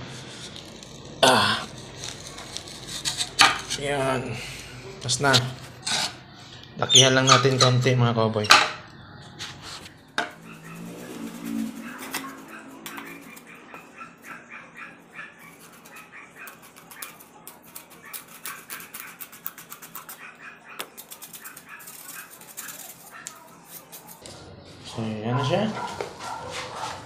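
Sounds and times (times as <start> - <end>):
gritty scraping with squeaks: 5.0 - 27.0.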